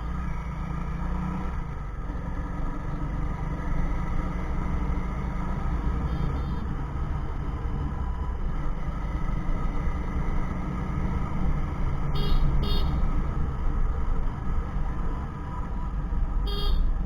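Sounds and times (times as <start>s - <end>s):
wind and motorbike road noise: 0.0s - 17.0s.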